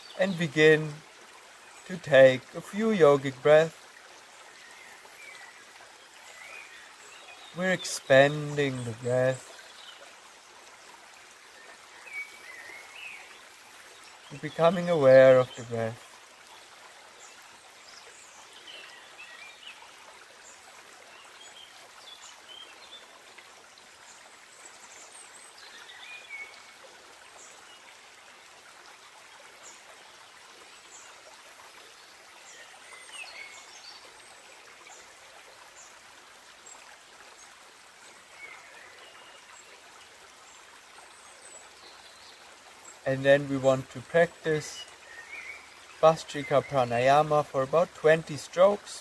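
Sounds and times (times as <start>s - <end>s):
faint flowing stream: 0.0s - 49.0s.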